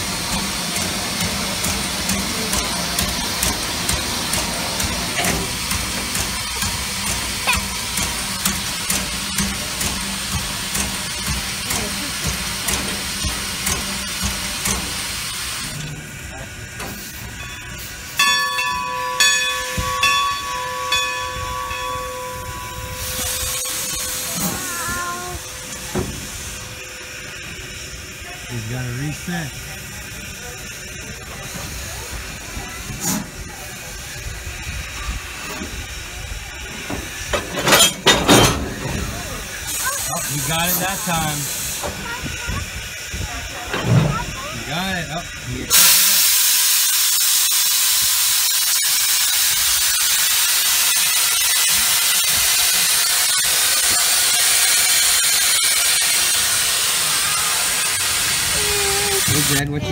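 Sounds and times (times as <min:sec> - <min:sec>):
steam locomotive hissing and puffing: 0:00.0 - 0:59.9.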